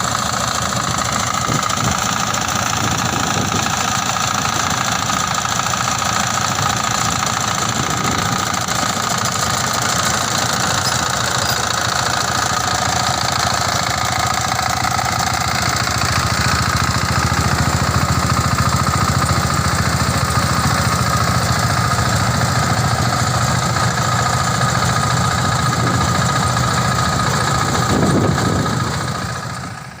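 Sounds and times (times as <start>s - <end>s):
harvester engine drone: 0.0s - 30.0s.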